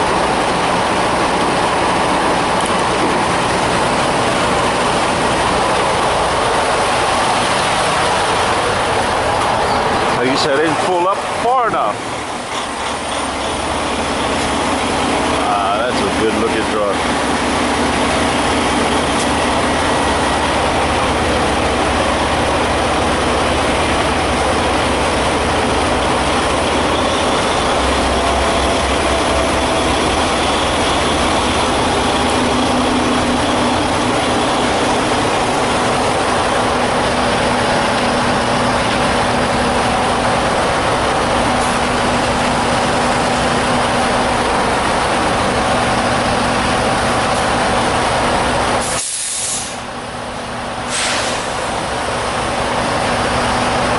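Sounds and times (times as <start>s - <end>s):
truck engine rumbling: 0.0s - 53.9s.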